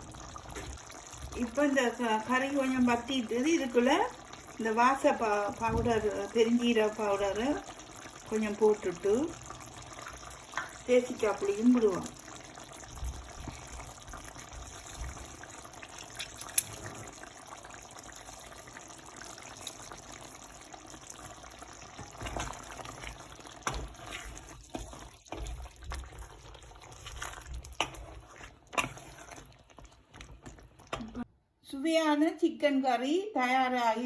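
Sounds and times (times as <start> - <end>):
curry bubbling in a pan: 0.0 - 31.3.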